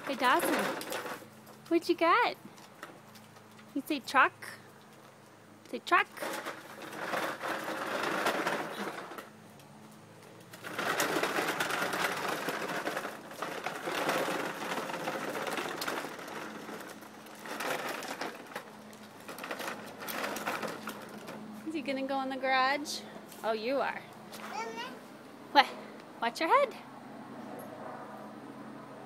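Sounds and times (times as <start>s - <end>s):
toy truck wheels rolling on pavement: 0.0s - 23.0s, 24.3s - 25.0s.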